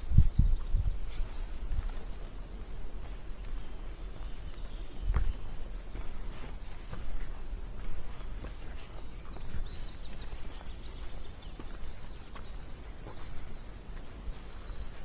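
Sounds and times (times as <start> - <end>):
songbird chirping: 0.0 - 2.4, 3.0 - 6.4, 8.4 - 15.0.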